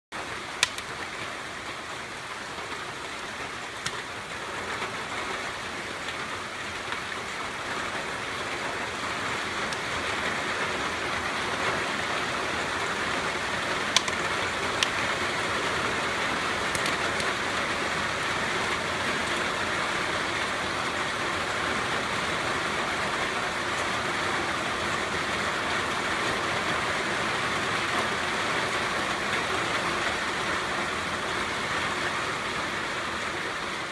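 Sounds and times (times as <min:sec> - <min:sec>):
rain falling on leaves: 0:00.1 - 0:33.9.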